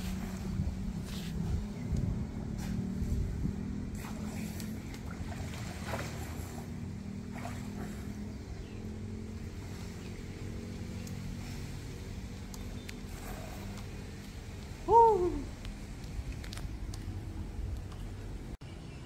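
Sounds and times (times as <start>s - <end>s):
engine humming: 0.0s - 18.6s.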